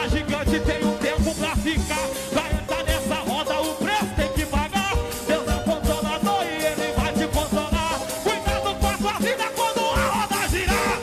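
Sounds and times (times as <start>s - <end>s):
steady drum beat: 0.0s - 11.0s
upbeat gospel music: 0.0s - 11.0s.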